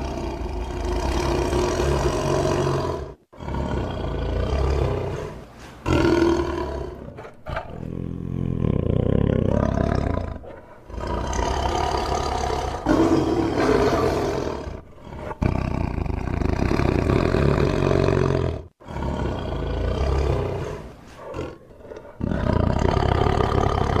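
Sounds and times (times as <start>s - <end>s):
tiger roaring and growling: 0.0s - 24.0s.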